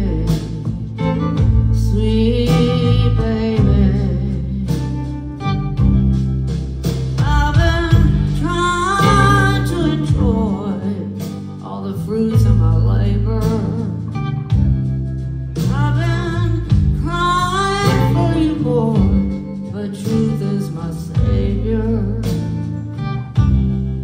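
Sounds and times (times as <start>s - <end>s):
woman singing: 0.0s - 5.2s, 7.2s - 14.9s, 15.6s - 23.6s
acoustic guitar: 0.0s - 24.0s
bass line: 0.0s - 24.0s.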